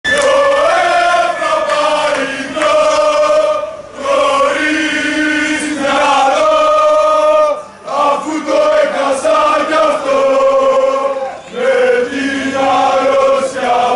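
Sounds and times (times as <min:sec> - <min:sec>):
crowd chanting in unison: 0:00.1 - 0:13.9.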